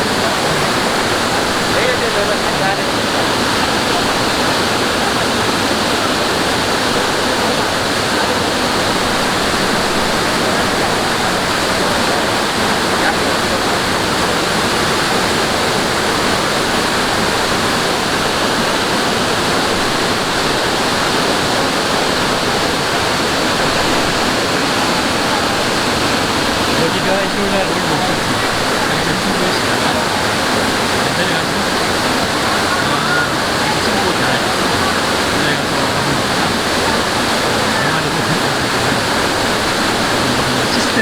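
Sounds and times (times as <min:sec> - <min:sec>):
water rushing over rocks: 0:00.0 - 0:41.0.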